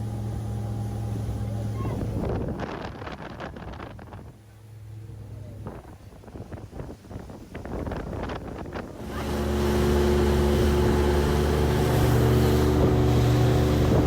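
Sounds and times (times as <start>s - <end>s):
boat engine running steadily: 0.0s - 14.0s.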